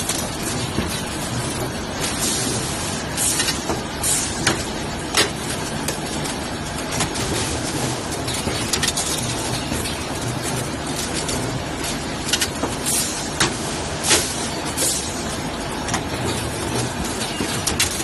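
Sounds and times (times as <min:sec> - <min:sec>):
machine running with low rumble: 0:00.0 - 0:18.0.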